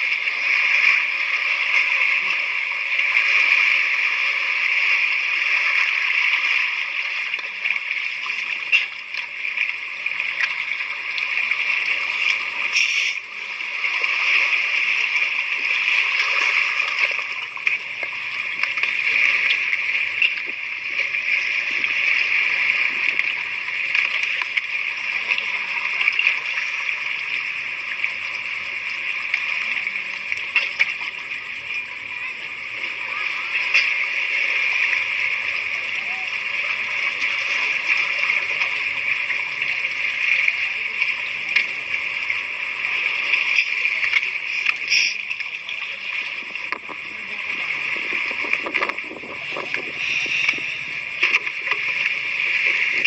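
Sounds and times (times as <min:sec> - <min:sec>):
water splashing and sloshing: 0:00.0 - 0:53.0.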